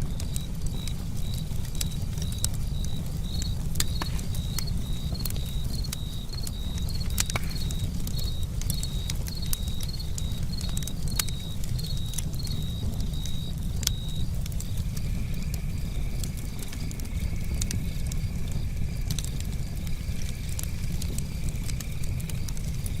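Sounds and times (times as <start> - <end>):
campfire crackling with pops: 0.0 - 23.0
cricket chirping: 0.0 - 23.0
steady low rumble: 0.0 - 23.0.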